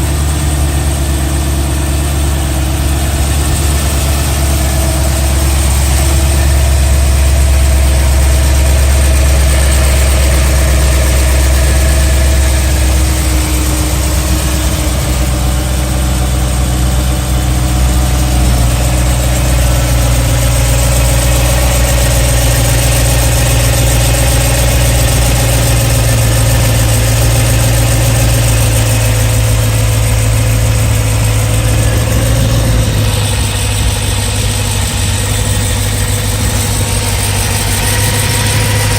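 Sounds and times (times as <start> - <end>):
car engine idling: 0.0 - 38.9
engine ticking: 0.0 - 38.9.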